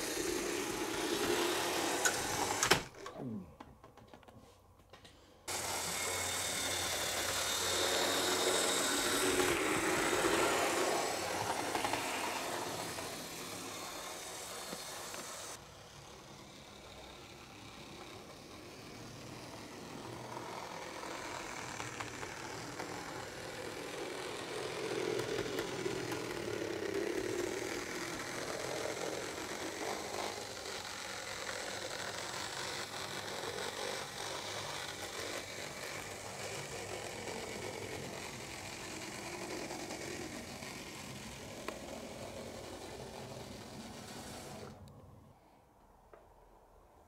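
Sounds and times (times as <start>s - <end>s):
model train motor humming: 0.0s - 2.9s, 5.5s - 44.9s
wheels rolling on rails: 0.0s - 45.2s.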